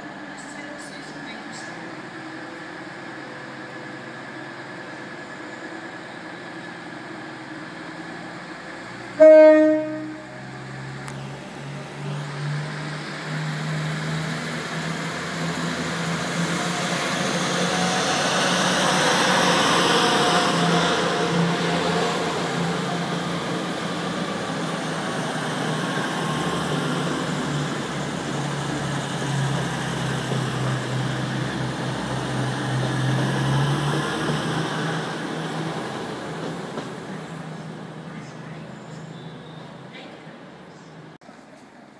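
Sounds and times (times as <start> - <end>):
diesel train passing: 0.0 - 41.2.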